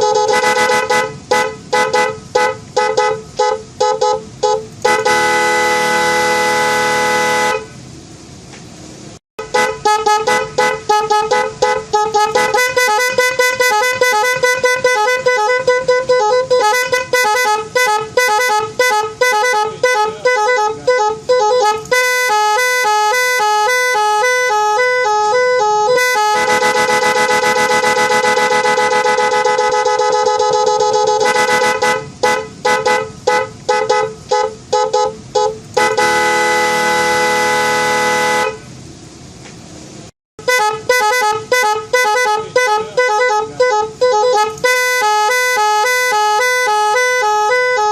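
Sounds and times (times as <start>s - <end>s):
electric car horn honking: 0.0s - 7.8s, 9.4s - 38.7s, 40.4s - 47.9s.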